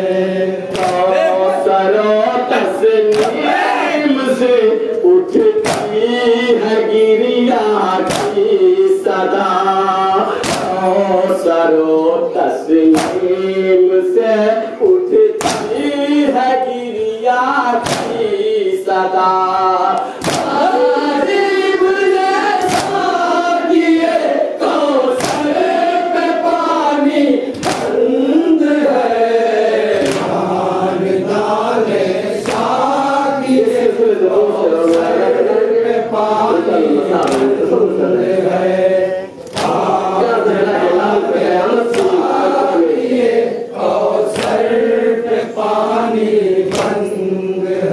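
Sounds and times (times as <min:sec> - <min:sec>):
men chanting in unison: 0:00.0 - 0:47.9
sharp rhythmic beats: 0:00.0 - 0:47.9.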